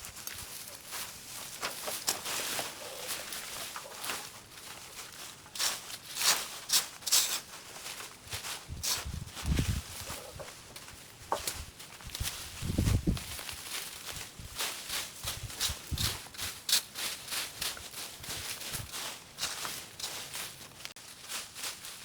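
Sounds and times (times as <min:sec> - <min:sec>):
brush rustling and crackling: 0:00.0 - 0:22.0.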